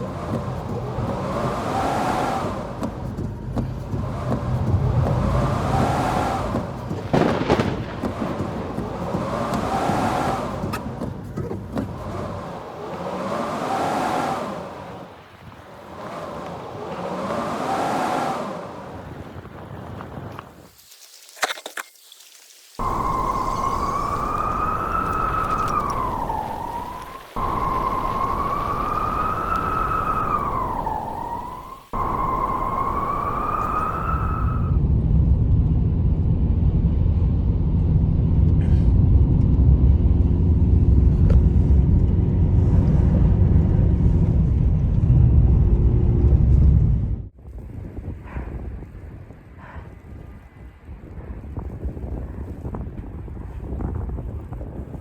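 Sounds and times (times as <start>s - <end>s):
wind buffeting microphone: 0.0s - 20.7s, 22.8s - 55.0s
howling blizzard wind: 0.0s - 21.3s, 22.2s - 55.0s.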